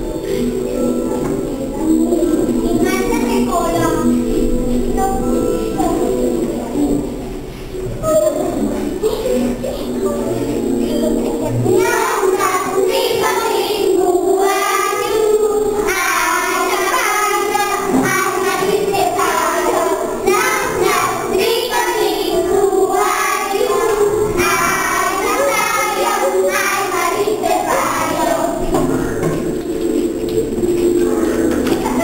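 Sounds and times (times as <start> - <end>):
young children singing: 0.0 - 32.0.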